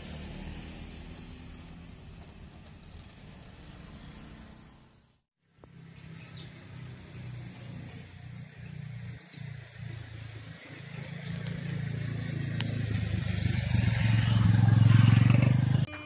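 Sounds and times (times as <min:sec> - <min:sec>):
vehicle engine approaching: 0:00.0 - 0:16.0.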